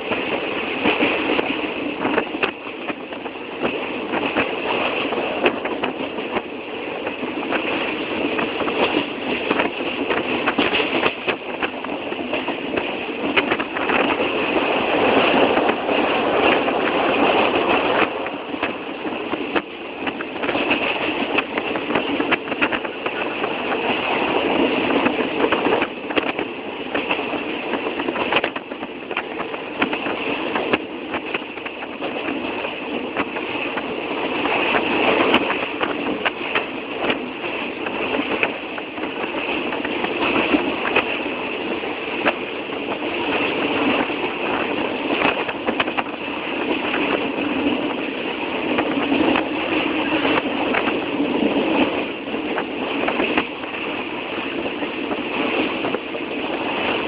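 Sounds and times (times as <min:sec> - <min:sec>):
train clicks and rattles: 0:00.0 - 0:57.0
train mechanical din: 0:00.0 - 0:57.0.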